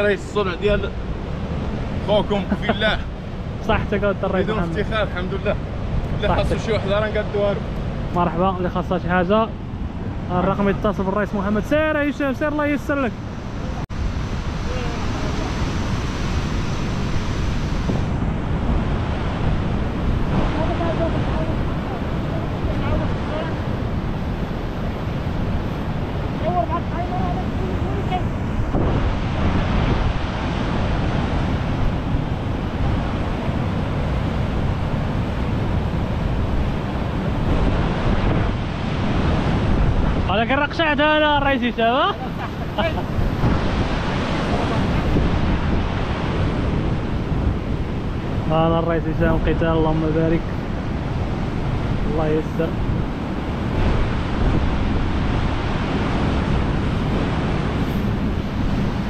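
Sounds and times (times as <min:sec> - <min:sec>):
heavy surf breaking: 0:00.0 - 0:59.0
wind buffeting microphone: 0:00.0 - 0:59.0.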